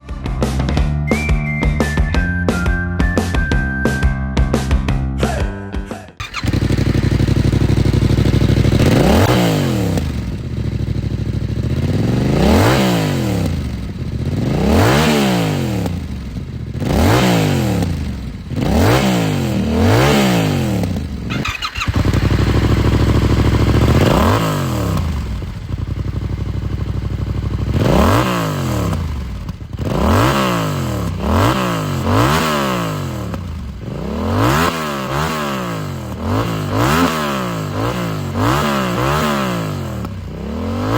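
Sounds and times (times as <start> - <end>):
motorcycle engine revving: 6.2 - 40.9.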